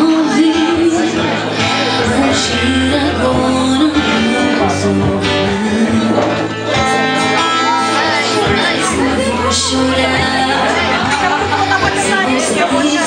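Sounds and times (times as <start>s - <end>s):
woman singing: 0.0s - 6.6s, 7.3s - 13.0s
strummed acoustic guitars: 0.0s - 13.0s.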